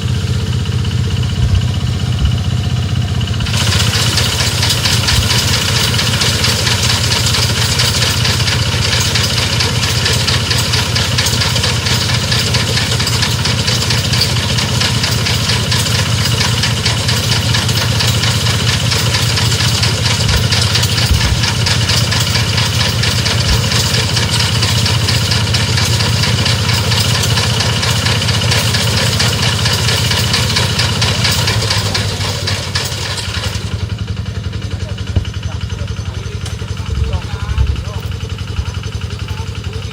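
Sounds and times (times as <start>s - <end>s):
small machine engine running: 0.0s - 39.9s.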